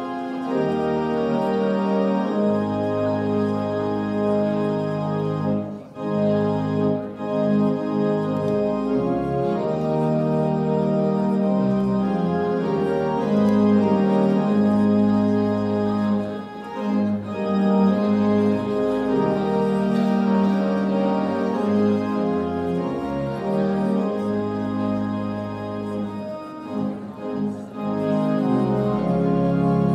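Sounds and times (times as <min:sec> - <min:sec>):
organ playing held chords: 0:00.0 - 0:29.9.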